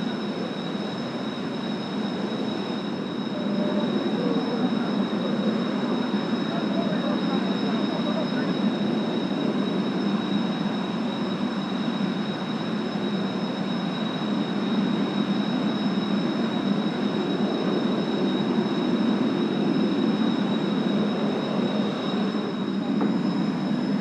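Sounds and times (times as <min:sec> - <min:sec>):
jet engines roaring and whining: 0:00.0 - 0:24.0.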